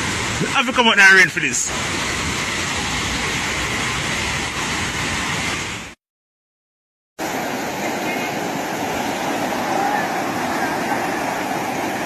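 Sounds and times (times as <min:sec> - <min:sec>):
rushing floodwater: 0:00.0 - 0:06.0, 0:07.2 - 0:12.0.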